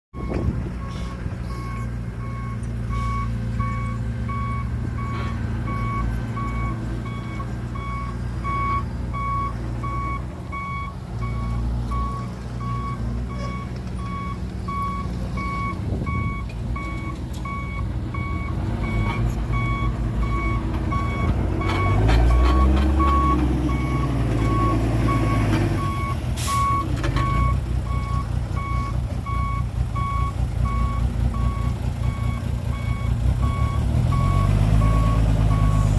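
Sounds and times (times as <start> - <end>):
diesel engine running: 0.2 - 35.9
reversing alarm beeping: 0.2 - 35.9.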